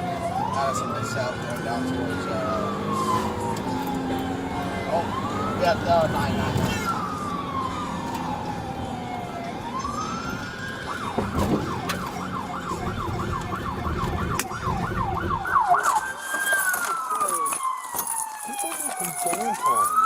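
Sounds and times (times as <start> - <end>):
engine and road rumble: 0.0 - 20.0
police car siren: 0.0 - 20.0.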